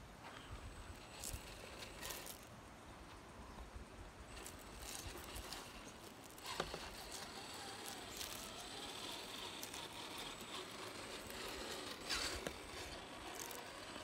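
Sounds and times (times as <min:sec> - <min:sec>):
electric motor whine: 0:00.6 - 0:02.5, 0:04.3 - 0:14.0.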